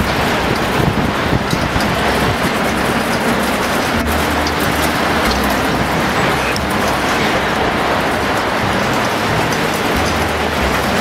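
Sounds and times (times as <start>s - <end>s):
train running: 0.0s - 11.0s.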